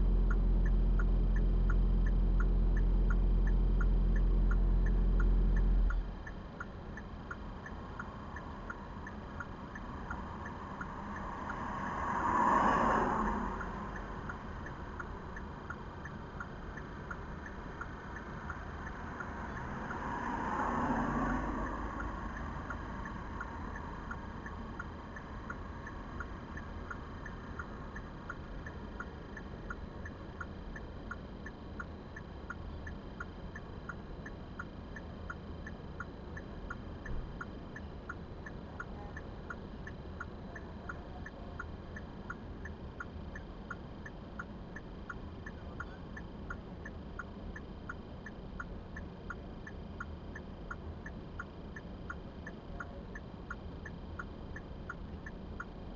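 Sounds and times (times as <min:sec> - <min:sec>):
low hum of car: 0:00.0 - 0:55.9
turn signal ticking: 0:00.0 - 0:55.9.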